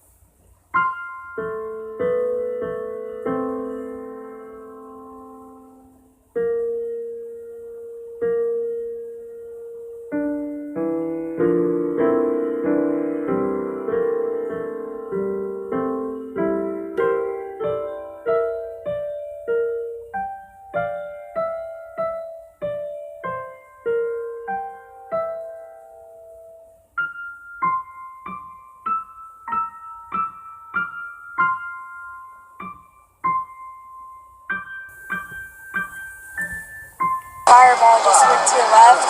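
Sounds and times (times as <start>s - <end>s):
slow solo piano: 0.0s - 37.5s.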